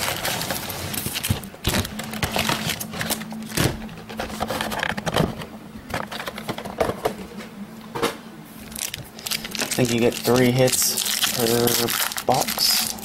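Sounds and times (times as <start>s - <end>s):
foil packs crinkling and rustling: 0.0s - 6.8s, 8.6s - 13.0s.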